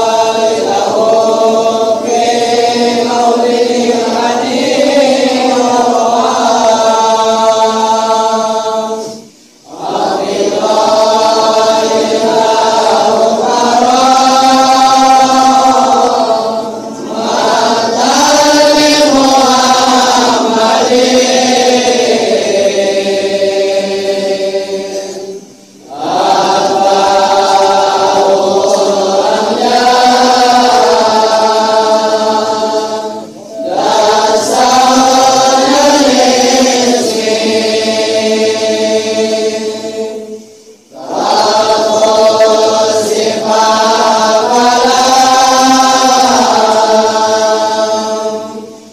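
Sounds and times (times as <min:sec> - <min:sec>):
man chanting unaccompanied: 0:00.0 - 0:48.9.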